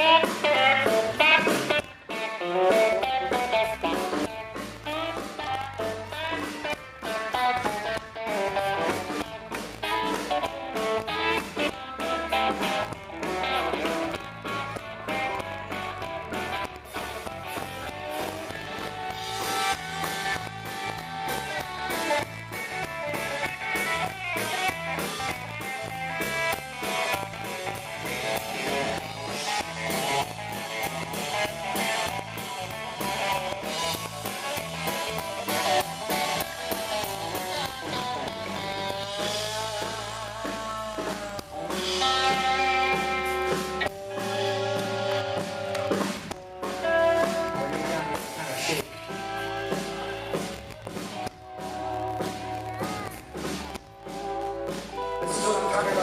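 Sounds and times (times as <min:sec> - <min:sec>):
bass guitar: 0:00.0 - 0:56.0
drum kit: 0:00.0 - 0:56.0
lead guitar solo: 0:00.0 - 0:56.0.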